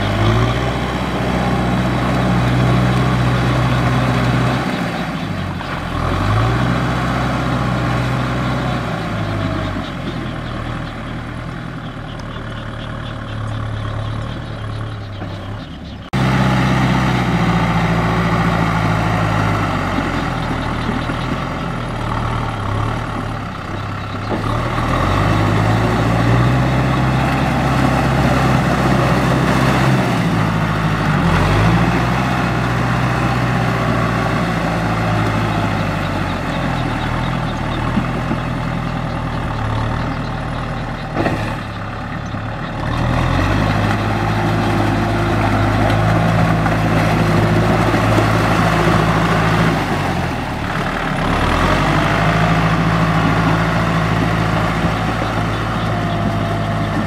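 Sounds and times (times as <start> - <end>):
tractor engine revving under load: 0.0 - 57.0.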